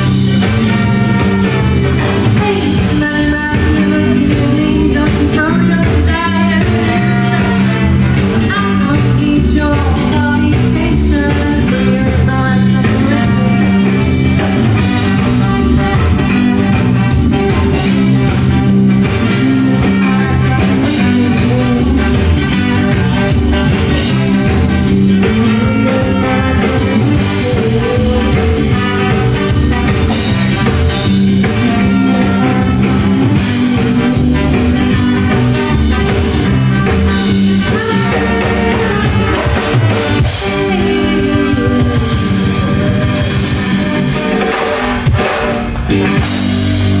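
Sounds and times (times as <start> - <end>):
live rock band playing: 0.0 - 47.0.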